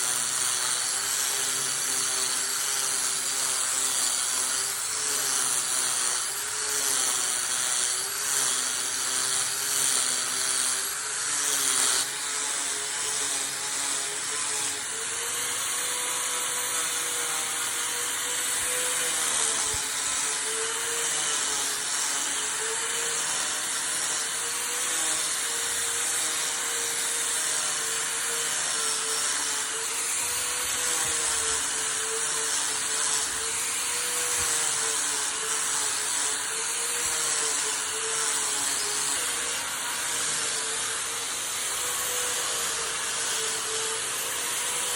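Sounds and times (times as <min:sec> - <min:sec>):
power tool on wood: 0:00.0 - 0:44.9.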